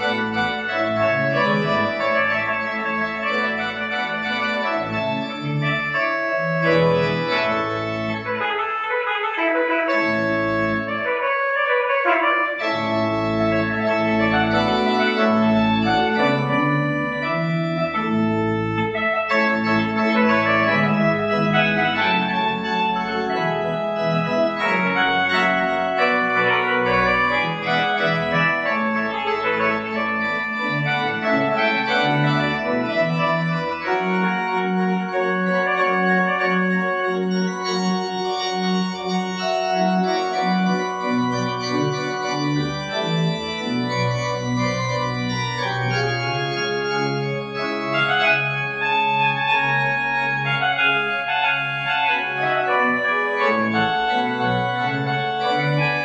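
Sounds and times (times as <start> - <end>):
pipe organ playing: 0.0 - 56.0.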